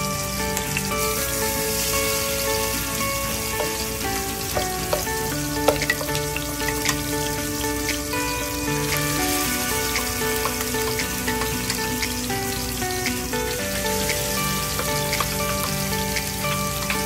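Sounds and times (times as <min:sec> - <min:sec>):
background music with held notes: 0:00.0 - 0:17.0
frying in oil sizzling: 0:00.0 - 0:17.0.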